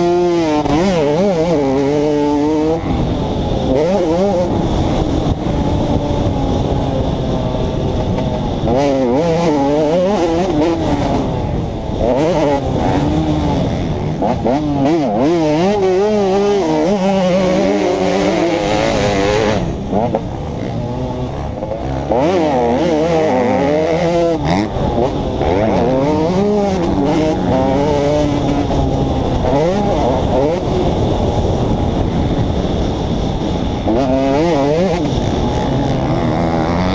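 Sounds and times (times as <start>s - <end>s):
two-stroke motorcycle engine revving: 0.0s - 36.9s.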